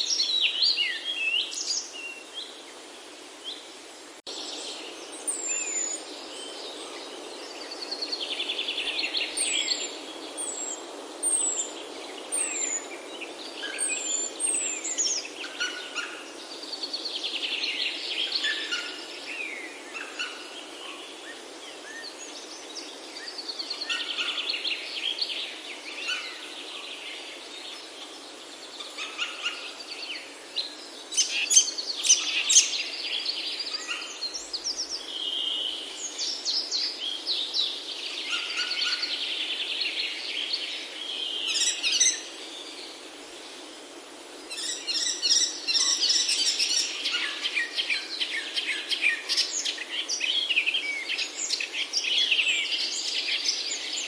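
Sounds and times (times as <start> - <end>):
soft background hiss: 0.0 - 54.0.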